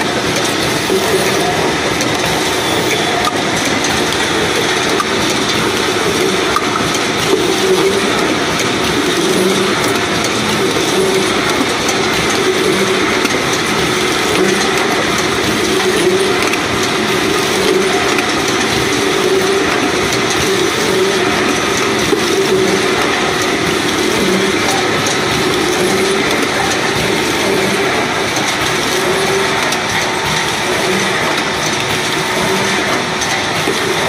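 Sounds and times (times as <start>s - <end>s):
machine clattering: 0.0s - 34.0s
machine hum: 0.0s - 34.0s.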